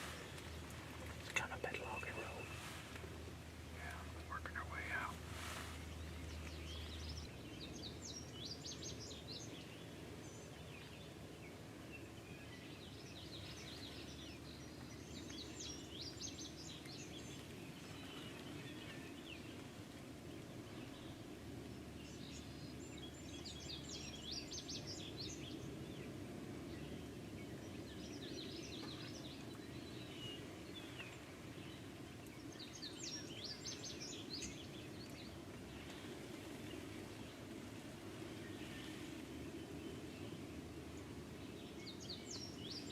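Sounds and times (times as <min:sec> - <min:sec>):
faint birdsong: 0:00.0 - 0:42.9
low background rumble: 0:00.0 - 0:42.9.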